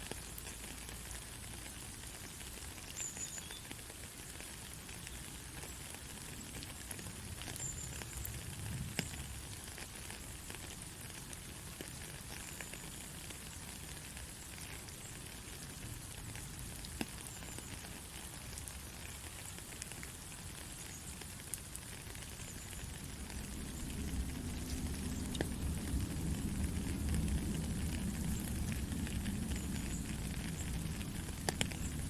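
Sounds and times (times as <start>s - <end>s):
gentle rain falling: 0.0s - 32.0s
sharp water drips: 0.0s - 32.0s.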